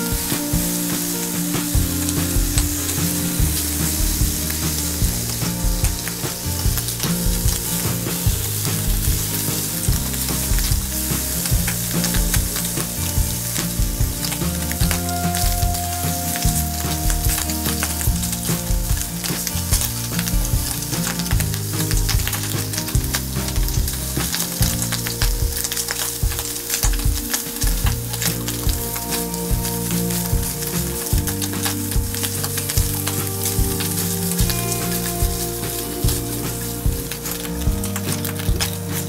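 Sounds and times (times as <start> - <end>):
meat sizzling in a frying pan: 0.0 - 39.0
pops and crackles: 0.0 - 39.0.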